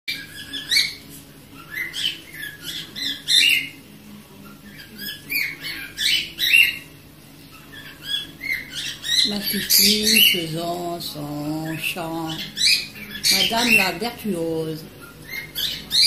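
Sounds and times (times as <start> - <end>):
parrots squawking and chirping: 0.1 - 16.0.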